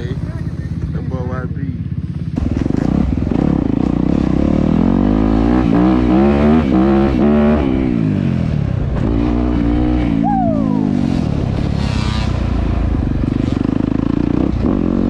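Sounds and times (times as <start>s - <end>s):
dirt bike engine revving: 2.3s - 15.0s.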